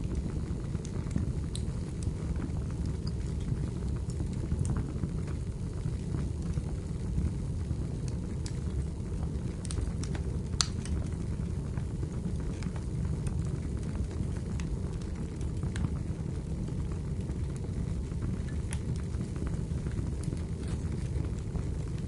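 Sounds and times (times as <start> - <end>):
fire crackles and pops: 0.0 - 22.0
low rumble of fire: 0.0 - 22.0.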